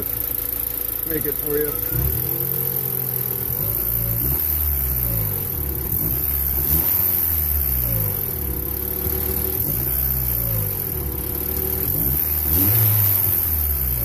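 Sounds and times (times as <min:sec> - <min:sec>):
car engine revving: 0:00.0 - 0:14.0
engine knocking: 0:00.0 - 0:14.0.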